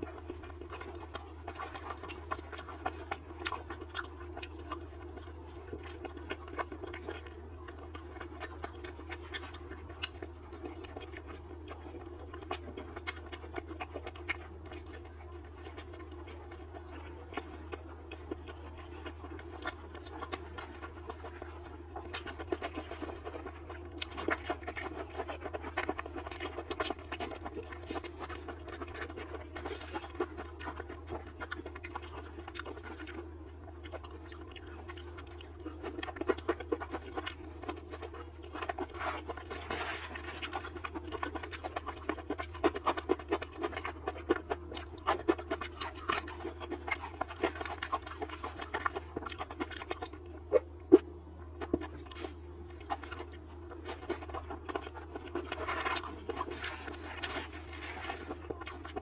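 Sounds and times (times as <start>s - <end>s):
close chewing with wet smacking: 0.0s - 59.0s
steady low hum: 0.0s - 59.0s.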